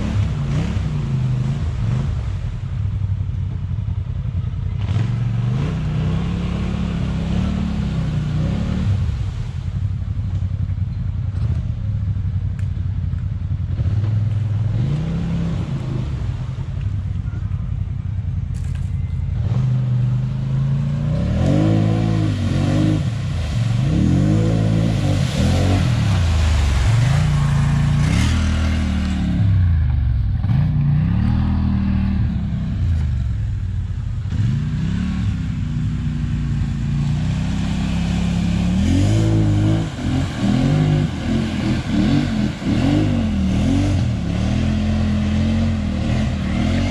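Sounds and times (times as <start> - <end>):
atv engine revving: 0.0 - 2.7, 4.7 - 9.5, 13.5 - 16.6, 18.5 - 33.6, 34.2 - 46.9.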